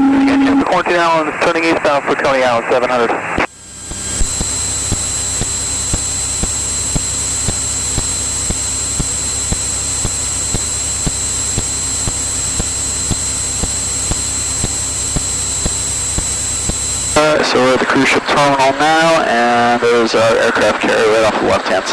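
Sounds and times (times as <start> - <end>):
thin high whine: 0.0 - 21.9.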